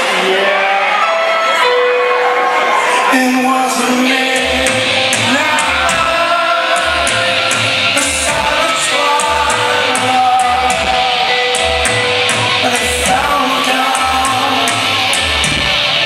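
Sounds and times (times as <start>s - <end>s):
person singing: 0.0s - 16.0s
rock band playing: 0.0s - 16.0s.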